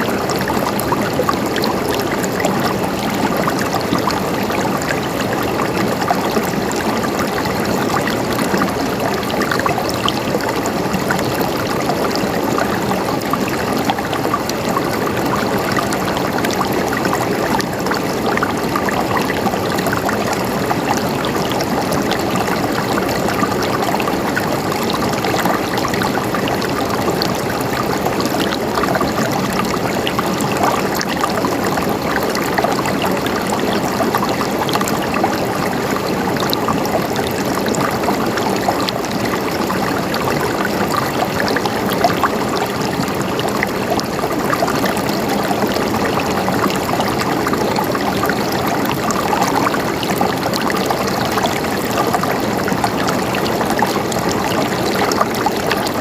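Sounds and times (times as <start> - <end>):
stream water babbling: 0.0 - 56.0.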